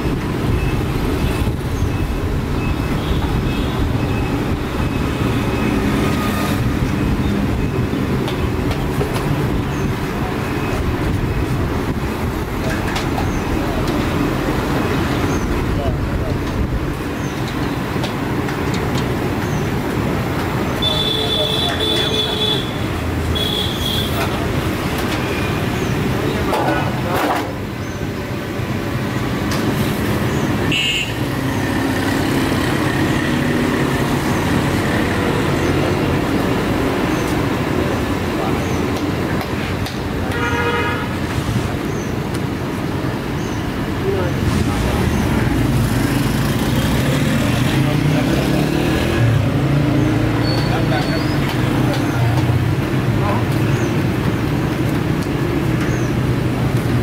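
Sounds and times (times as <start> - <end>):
low street rumble: 0.0 - 57.0.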